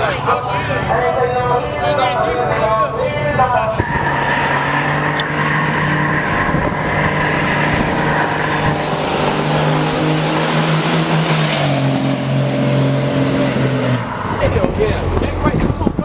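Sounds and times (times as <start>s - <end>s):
road and wind noise: 0.0s - 16.0s
truck engine running: 0.0s - 16.0s.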